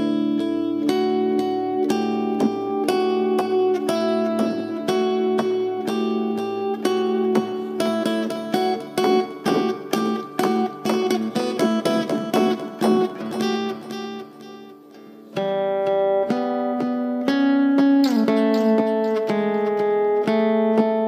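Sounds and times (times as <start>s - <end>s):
acoustic guitar with delay: 0.0s - 21.0s.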